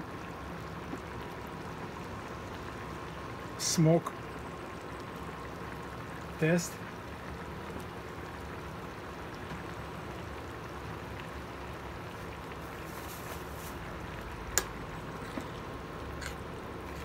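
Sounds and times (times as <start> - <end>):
stew simmering softly: 0.0 - 17.0.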